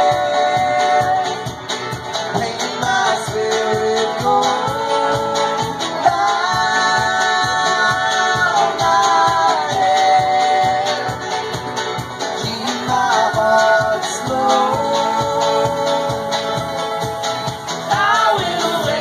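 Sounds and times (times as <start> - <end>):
banjo: 0.0 - 19.0
drums: 0.0 - 19.0
folk band with harmony singing: 0.0 - 19.0.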